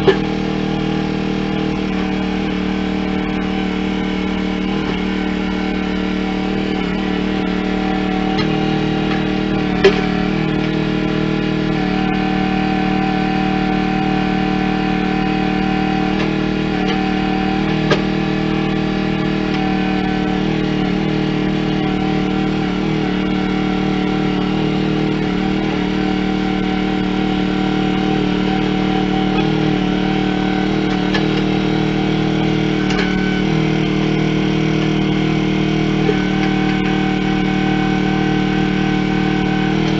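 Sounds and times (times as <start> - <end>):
machine engine running steadily: 0.0 - 39.9.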